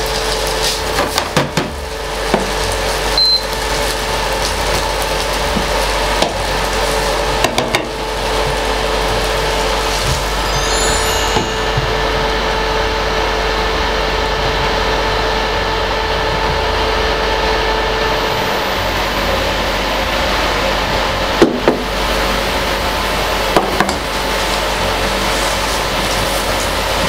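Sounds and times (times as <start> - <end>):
sauce frying hiss: 0.0 - 13.6, 18.2 - 27.0.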